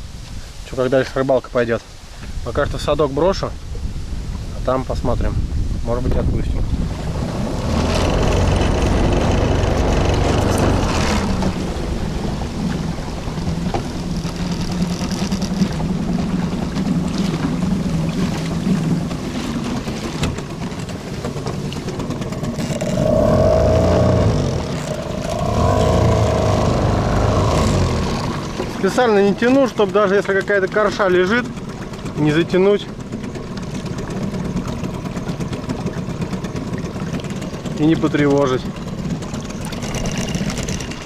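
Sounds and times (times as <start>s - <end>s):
small boat motor running: 6.6s - 41.0s.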